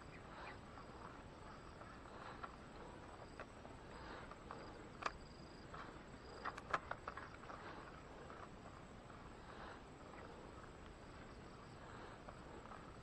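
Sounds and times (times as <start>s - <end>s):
insects: 0.0s - 13.0s.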